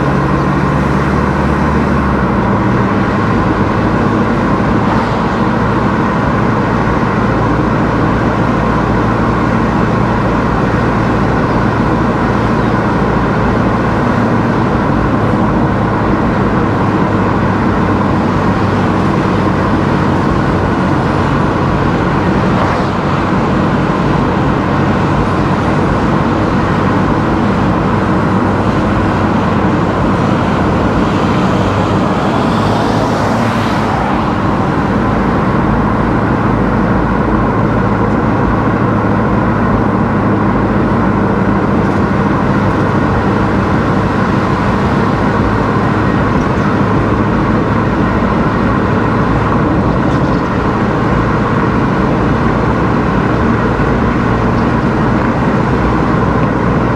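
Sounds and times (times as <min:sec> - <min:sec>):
car driving on road: 0:00.0 - 0:56.9.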